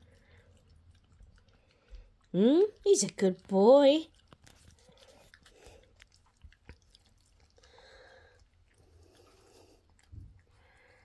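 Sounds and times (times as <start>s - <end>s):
puppy licking wet food: 0.0s - 11.0s.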